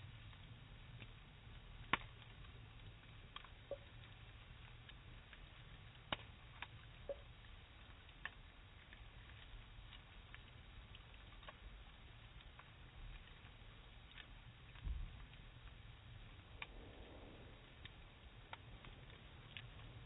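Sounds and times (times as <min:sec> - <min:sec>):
low steady hum: 0:00.0 - 0:20.0
faint sharp clicks: 0:00.3 - 0:20.0.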